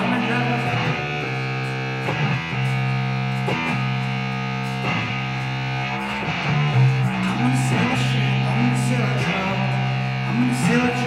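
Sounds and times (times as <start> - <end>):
distorted electric guitar chords: 0.0 - 11.0.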